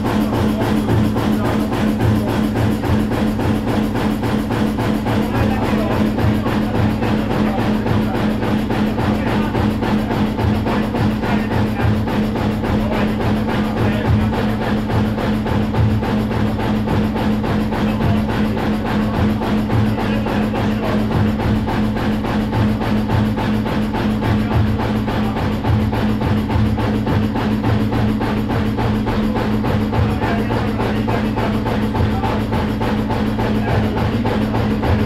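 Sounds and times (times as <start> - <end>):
stationary engine running: 0.0 - 35.0.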